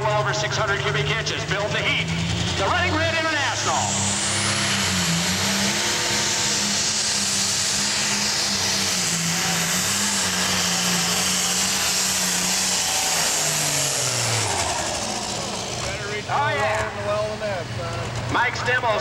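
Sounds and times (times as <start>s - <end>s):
tractor diesel engine at full load: 0.0s - 19.0s
high steady whine: 0.1s - 19.0s.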